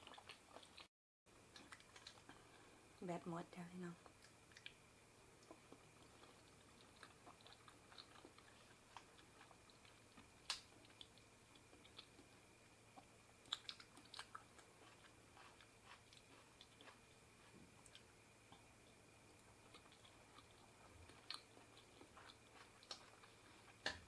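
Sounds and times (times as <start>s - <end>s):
person chewing food: 0.0s - 3.0s, 4.0s - 24.0s.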